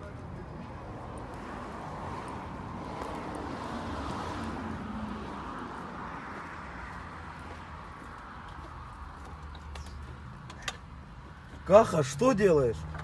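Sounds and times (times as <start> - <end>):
road traffic noise: 0.0 - 13.0
vehicle passing: 0.0 - 13.0.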